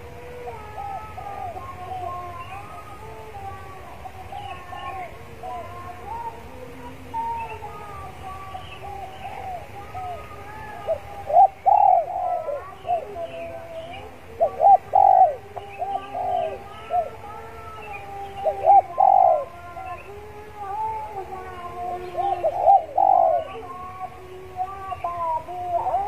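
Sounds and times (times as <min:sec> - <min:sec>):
dove cooing: 0:00.0 - 0:26.0
small birds chirping: 0:00.6 - 0:06.4, 0:07.1 - 0:26.0.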